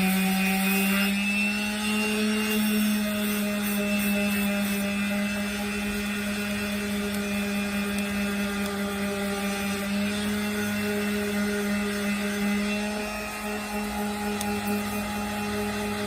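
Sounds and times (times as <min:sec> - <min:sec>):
power sander running: 0:00.0 - 0:16.0.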